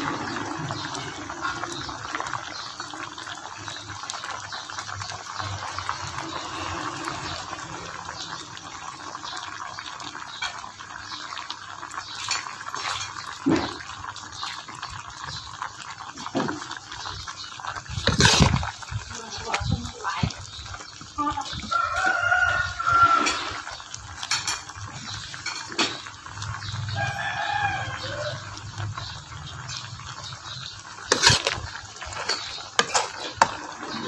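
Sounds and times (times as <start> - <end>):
ladle stirring in pan: 0.0 - 34.0
sausages sizzling in oil: 0.0 - 34.0.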